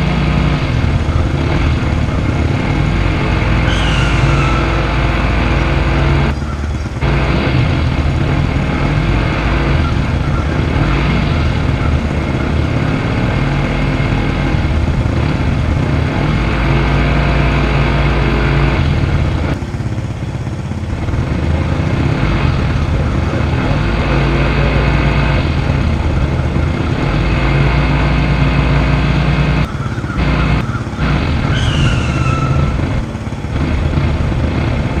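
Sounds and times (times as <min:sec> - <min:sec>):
vehicle engine running loudly: 0:00.0 - 0:35.0.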